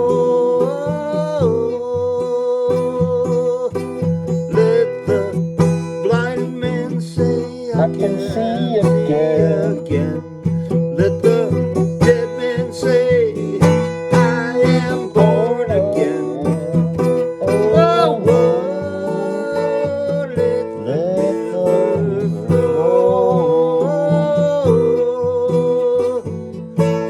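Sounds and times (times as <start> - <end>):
acoustic guitar song: 0.0 - 27.0.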